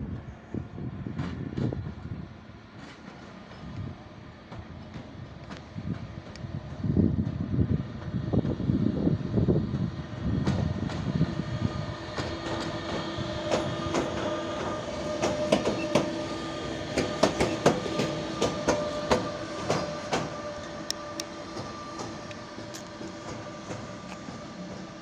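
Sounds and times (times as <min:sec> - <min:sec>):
train wheels clicking over rail joints: 0:02.7 - 0:08.7, 0:09.7 - 0:25.0.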